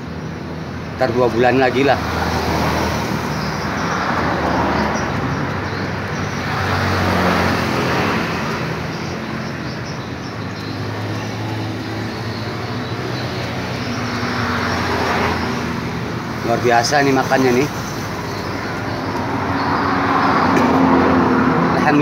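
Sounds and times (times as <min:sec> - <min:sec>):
traffic engine hum: 0:00.0 - 0:22.0
tyre noise of passing vehicles: 0:00.0 - 0:22.0.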